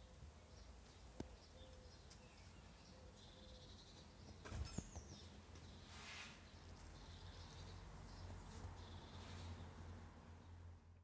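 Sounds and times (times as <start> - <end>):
birds chirping: 0.0 - 10.6.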